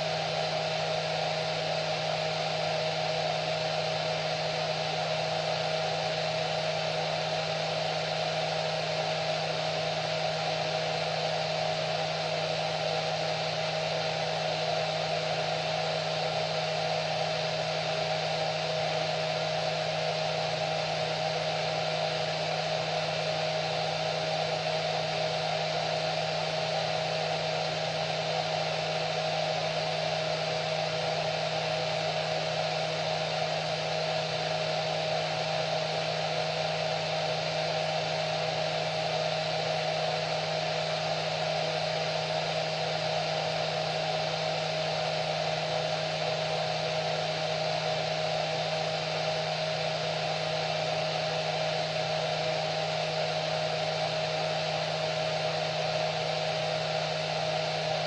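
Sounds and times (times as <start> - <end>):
hair dryer running: 2.3 - 58.0.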